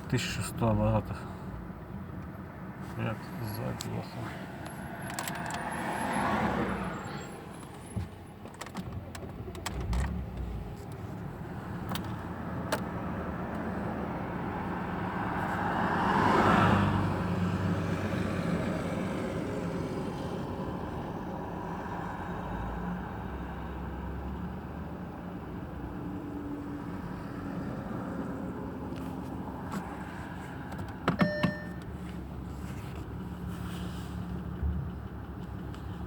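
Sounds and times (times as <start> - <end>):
car engine humming at low revs: 0.0 - 36.0.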